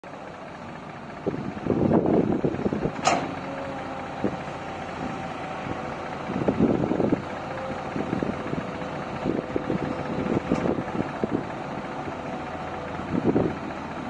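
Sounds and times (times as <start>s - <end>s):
excavator engine drone: 0.0s - 14.0s.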